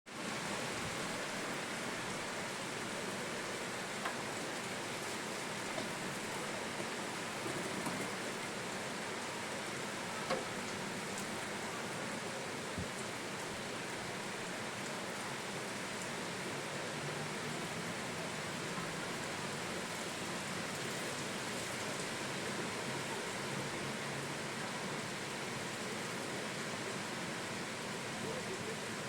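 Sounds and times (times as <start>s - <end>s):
rain falling: 0.1s - 29.0s.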